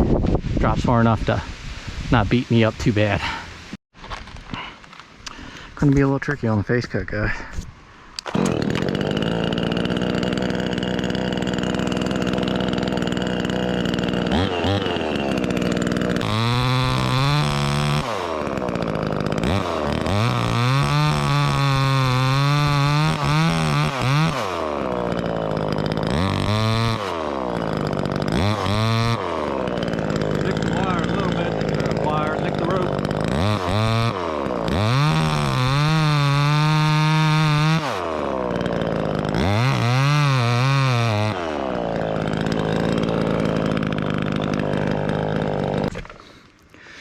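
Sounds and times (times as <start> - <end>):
chainsaw cutting wood: 7.6 - 47.0.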